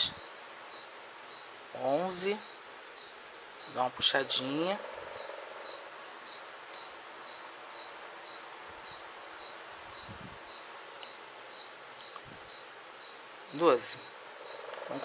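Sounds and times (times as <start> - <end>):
insect high-pitched trill: 0.0 - 15.0
lower insect chirp: 0.0 - 15.0.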